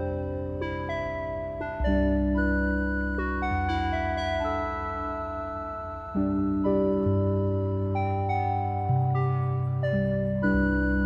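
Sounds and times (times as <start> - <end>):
keyboard chords with bass: 0.0 - 11.0.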